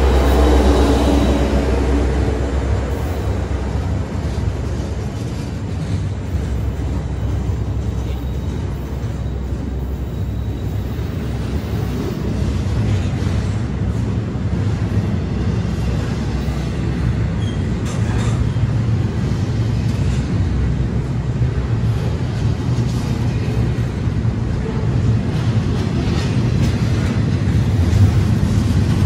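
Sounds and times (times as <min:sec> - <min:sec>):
train clanks: 0:00.0 - 0:29.0
train rumbling past: 0:00.0 - 0:29.0.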